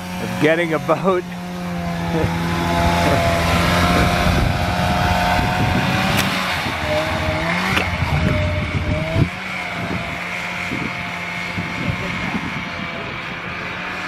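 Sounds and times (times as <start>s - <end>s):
snowmobile engine under load: 0.0s - 14.0s.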